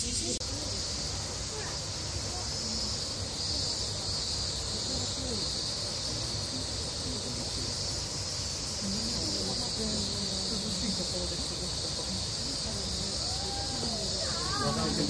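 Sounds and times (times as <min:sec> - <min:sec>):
cicadas chorus: 0:00.0 - 0:15.0
distant voices murmuring: 0:00.0 - 0:15.0.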